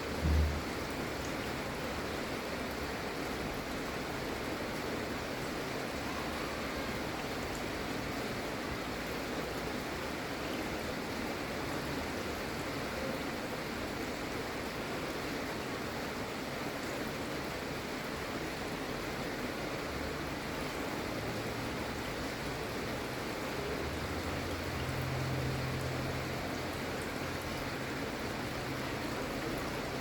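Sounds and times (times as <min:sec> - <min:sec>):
gentle steady rain: 0:00.0 - 0:30.0.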